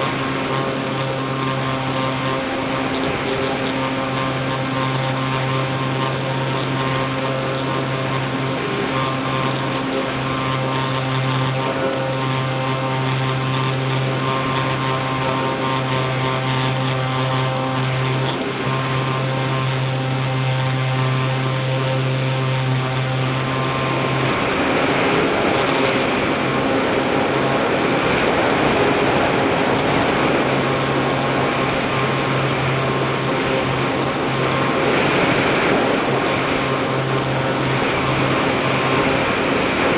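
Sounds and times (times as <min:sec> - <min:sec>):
model plane motor drone: 0:00.0 - 0:39.9
rush of wind: 0:00.0 - 0:39.9.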